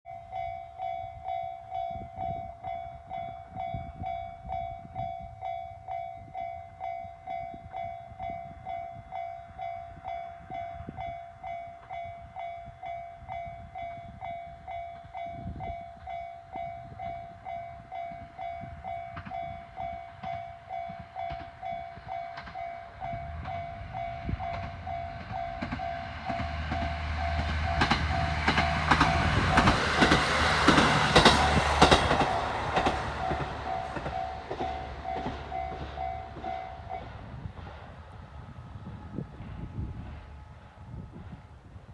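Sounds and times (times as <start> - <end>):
train rumble and wheel clatter: 0.3 - 41.9.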